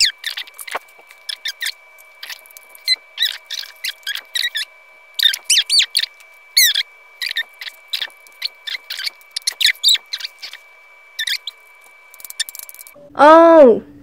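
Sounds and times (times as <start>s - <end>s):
high-pitched plastic squeaks: 0.0s - 13.0s.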